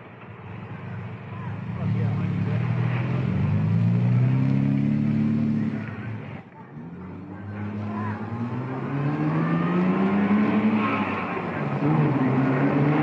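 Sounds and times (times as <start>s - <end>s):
sports car engines accelerating: 0.3s - 13.0s.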